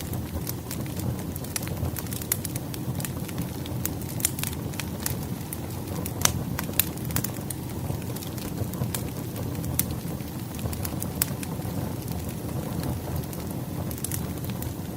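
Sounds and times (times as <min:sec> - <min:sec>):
campfire crackling and popping: 0:00.0 - 0:14.9
low rush of burning wood: 0:00.0 - 0:14.9.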